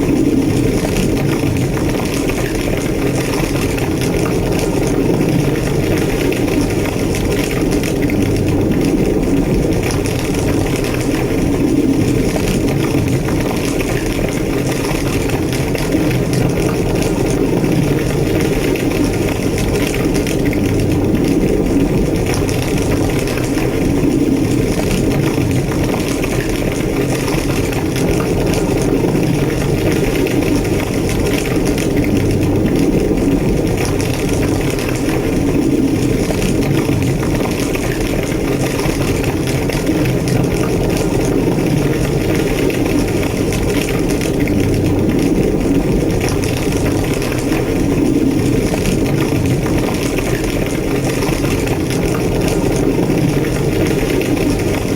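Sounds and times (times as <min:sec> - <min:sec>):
large fire roaring and crackling: 0:00.0 - 0:54.9.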